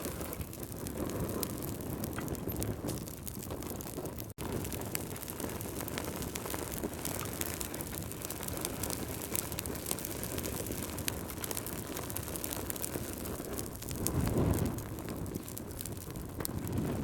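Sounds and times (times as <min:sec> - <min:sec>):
crackles and pops of logs: 0:00.0 - 0:17.0
low rumble of flames: 0:00.0 - 0:17.0.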